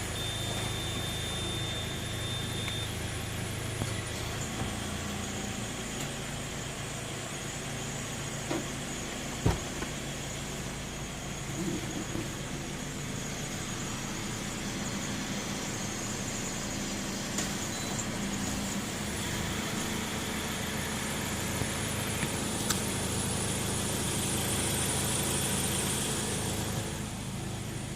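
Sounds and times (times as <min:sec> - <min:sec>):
abnormal exhaust noise: 0:00.0 - 0:27.9
car engine running: 0:00.0 - 0:27.9.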